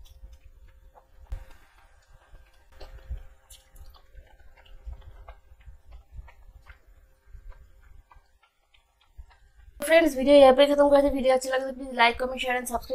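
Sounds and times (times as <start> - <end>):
chewing food: 0.0 - 10.6.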